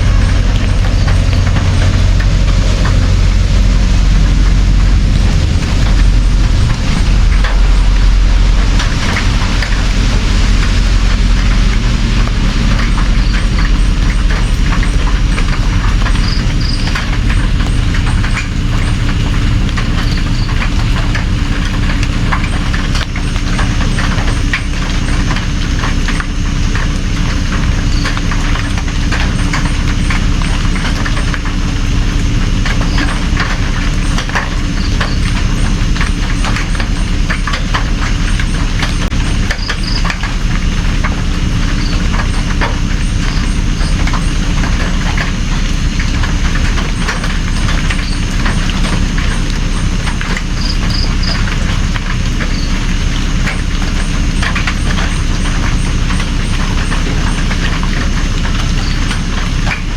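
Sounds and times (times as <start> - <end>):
low rumble: 0.0 - 59.9
steady rain: 0.0 - 59.9.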